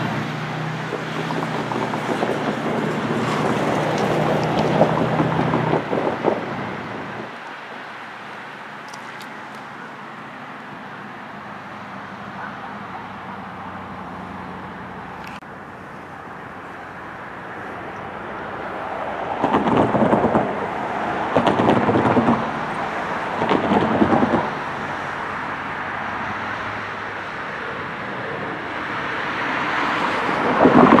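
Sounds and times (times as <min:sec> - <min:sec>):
wind buffeting microphone: 0:00.0 - 0:10.0, 0:16.2 - 0:31.0
electric train rumbling: 0:00.0 - 0:31.0.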